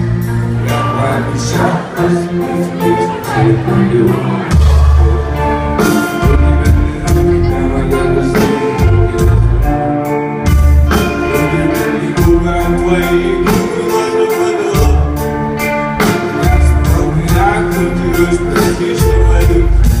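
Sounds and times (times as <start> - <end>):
pop song with steady beat: 0.6 - 9.6, 10.5 - 20.0.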